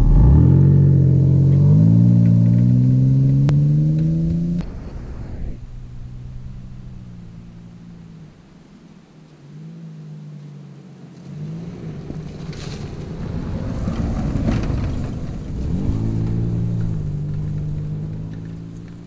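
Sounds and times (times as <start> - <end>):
tyres on dirt: 0.0 - 4.9, 5.5 - 19.0
car engine driving past: 0.0 - 19.0.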